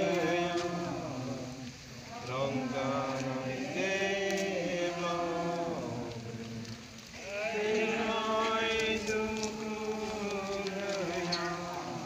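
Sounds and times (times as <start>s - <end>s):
group chanting a prayer in unison: 0.0s - 12.0s.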